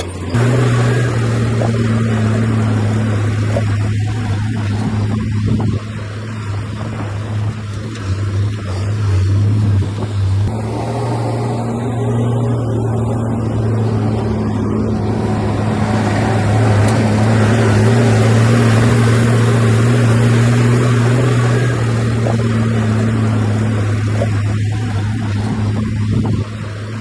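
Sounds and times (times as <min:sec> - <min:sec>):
heavy diesel engine droning: 0:00.0 - 0:27.0
rushing noise: 0:00.1 - 0:27.0.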